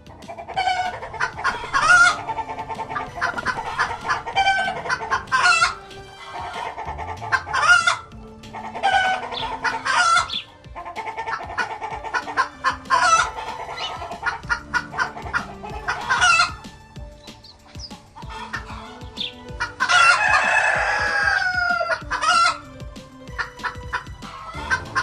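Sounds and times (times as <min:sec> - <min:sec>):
chickens clucking: 0:00.0 - 0:25.0
rooster crowing: 0:00.5 - 0:16.6, 0:18.2 - 0:22.8, 0:23.4 - 0:25.0.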